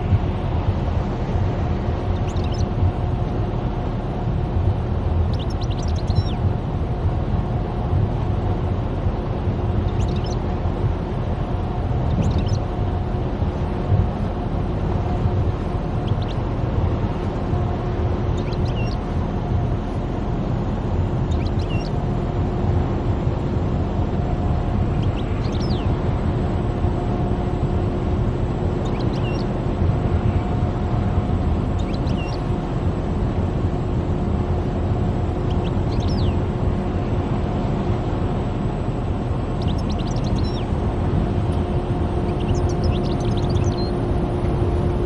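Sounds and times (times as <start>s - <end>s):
car road noise: 0.0s - 45.0s.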